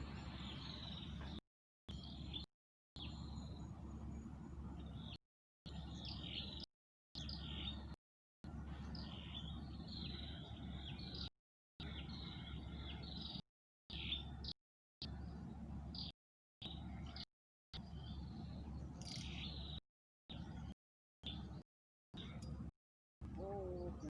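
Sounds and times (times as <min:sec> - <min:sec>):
small birds chirping: 0:00.0 - 0:21.6, 0:22.2 - 0:24.0.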